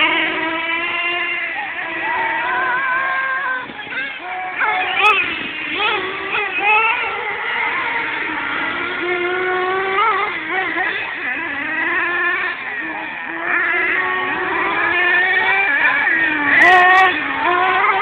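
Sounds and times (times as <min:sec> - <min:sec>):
rc car motors whining: 0:00.0 - 0:18.0.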